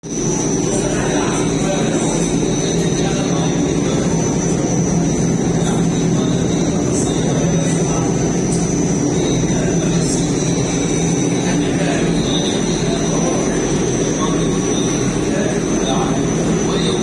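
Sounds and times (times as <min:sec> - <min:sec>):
washing machine drum spinning: 0:00.0 - 0:17.0.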